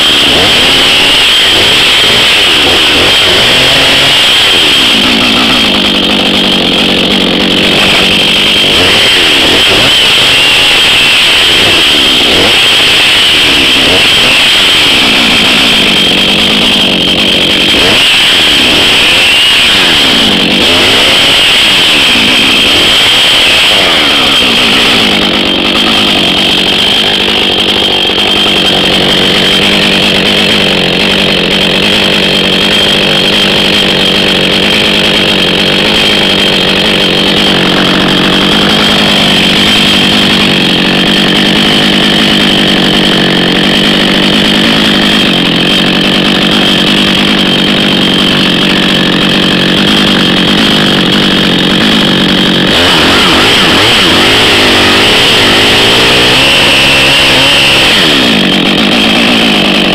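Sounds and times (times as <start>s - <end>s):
chainsaw revving and cutting wood: 0.0s - 59.9s.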